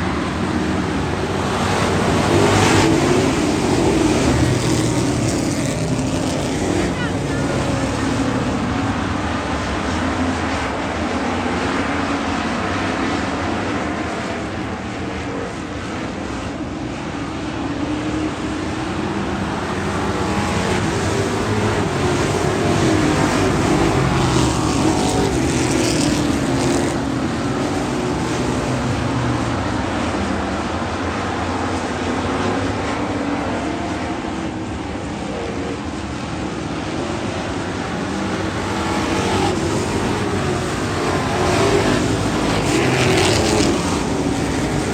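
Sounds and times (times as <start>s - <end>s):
racing engines: 0.0s - 44.9s.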